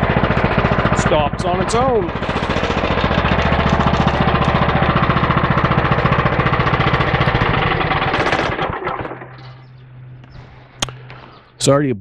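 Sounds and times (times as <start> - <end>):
single-cylinder engine running: 0.0 - 11.4.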